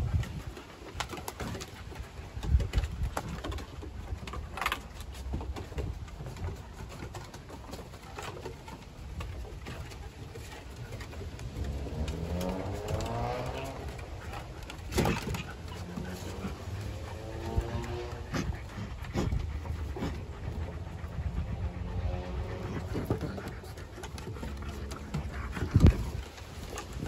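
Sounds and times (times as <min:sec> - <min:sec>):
dogs growling in play: 0:00.0 - 0:27.0.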